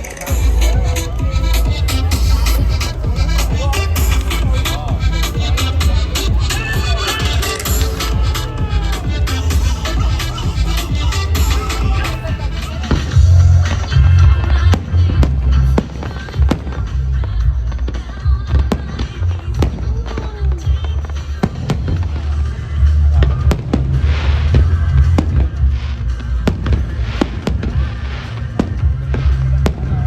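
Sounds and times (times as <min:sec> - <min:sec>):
music playing: 0:00.0 - 0:30.0.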